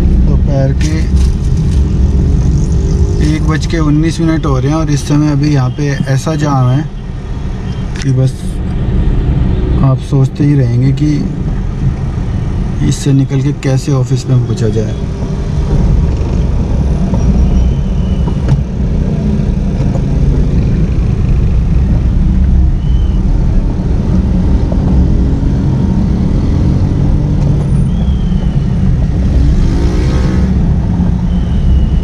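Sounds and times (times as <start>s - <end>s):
car engine rumble and road noise: 0.0s - 32.0s
surrounding traffic: 0.0s - 32.0s.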